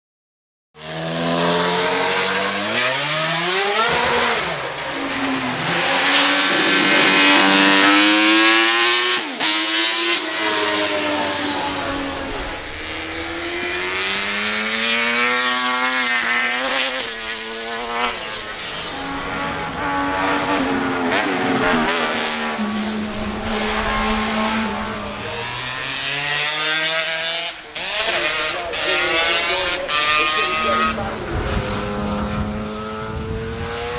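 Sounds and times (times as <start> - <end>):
racing motorcycle engines accelerating: 0.8 - 33.9.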